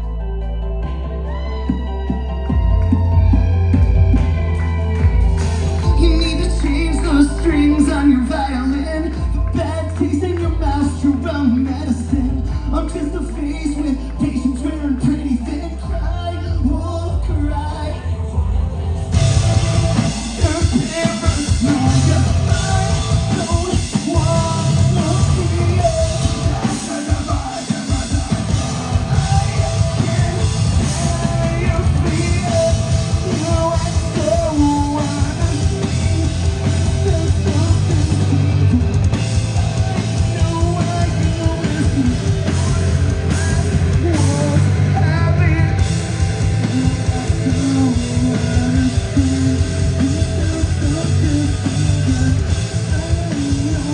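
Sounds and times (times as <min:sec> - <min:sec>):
heavy rock band playing: 0:00.0 - 0:53.9
sung and yelled vocals: 0:05.8 - 0:53.9.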